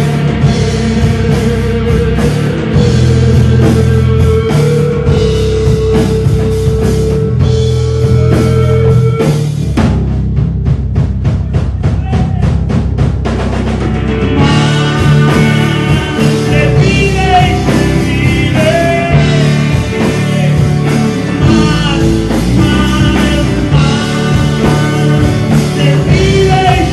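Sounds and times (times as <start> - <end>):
rock band playing: 0.0 - 26.9.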